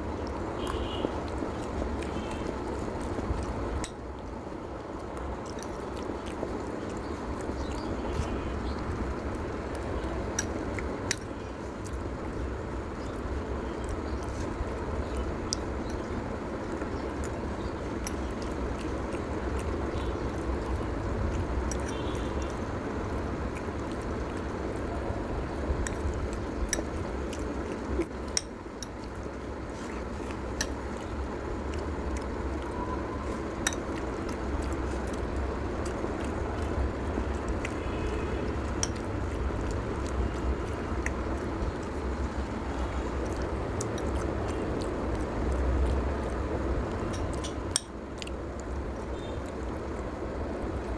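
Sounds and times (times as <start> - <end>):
eating noodles: 0.0 - 50.9
low background rumble: 0.0 - 50.9.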